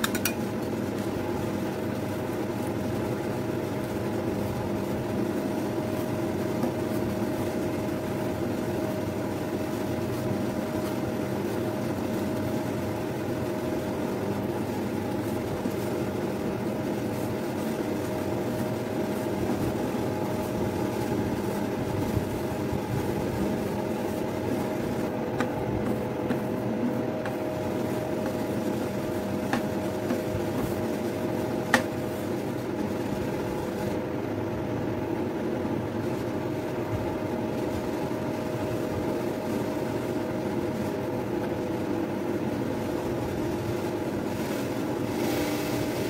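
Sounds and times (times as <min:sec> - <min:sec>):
steady machine hum: 0:00.0 - 0:46.0.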